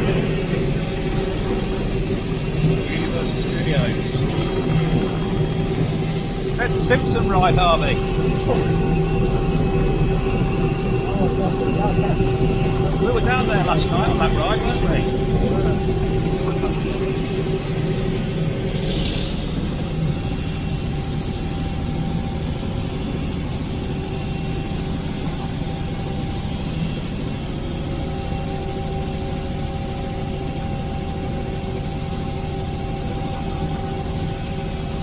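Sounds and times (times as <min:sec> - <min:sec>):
helicopter cabin drone: 0:00.0 - 0:35.0.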